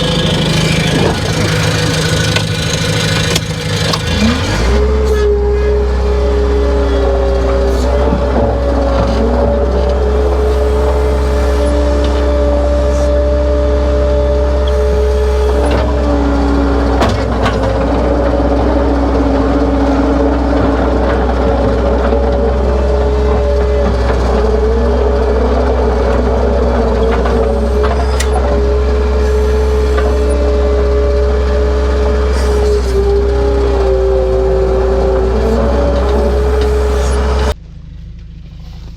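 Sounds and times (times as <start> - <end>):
motor humming: 0.0 - 37.6.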